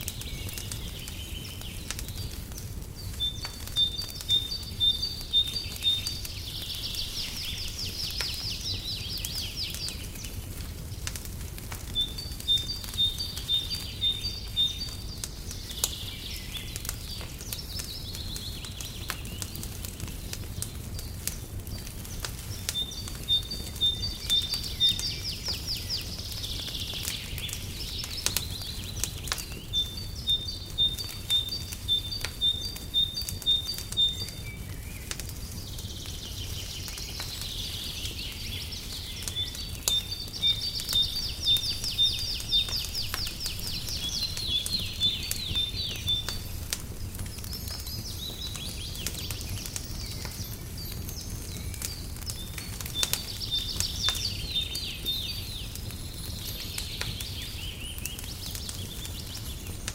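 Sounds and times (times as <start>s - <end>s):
wood fire crackling: 0.0s - 59.9s
songbird chirping and trilling: 0.1s - 59.9s.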